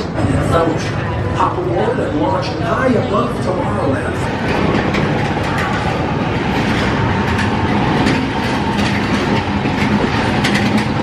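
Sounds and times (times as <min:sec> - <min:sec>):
ride car rumbling on track: 0:00.0 - 0:11.0.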